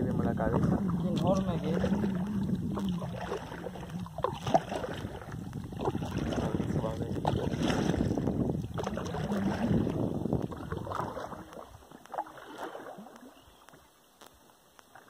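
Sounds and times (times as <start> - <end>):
wind rumbling on microphone: 0.0 - 12.3
water sloshing around a hull: 0.0 - 15.0.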